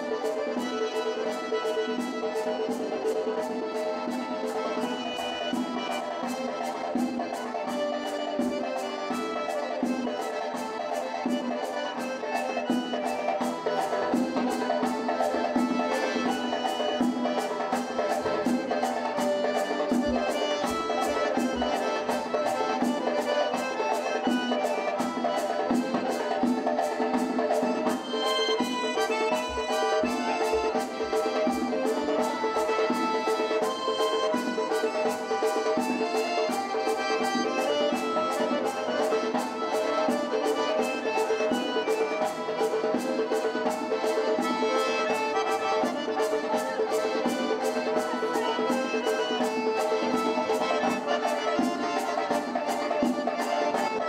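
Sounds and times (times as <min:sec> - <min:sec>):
folk dance music melody: 0:00.0 - 0:54.0
sharp percussive beat: 0:00.0 - 0:54.0.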